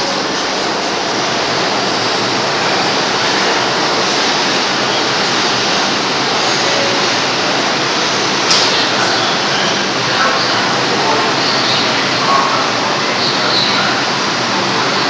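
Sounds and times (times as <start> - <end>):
subway train rushing noise: 0.0 - 15.0.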